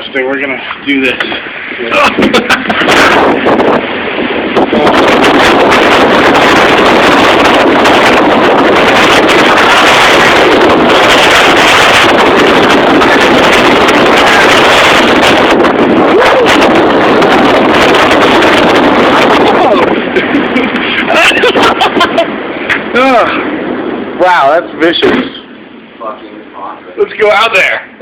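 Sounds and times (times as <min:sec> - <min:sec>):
strong wind into microphone: 0:00.0 - 0:28.0.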